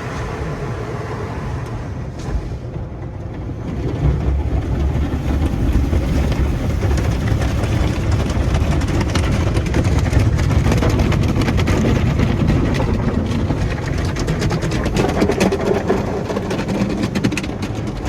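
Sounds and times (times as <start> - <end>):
car wash low rumble: 0.0 - 18.0
rapid patter and clatter: 2.1 - 18.0.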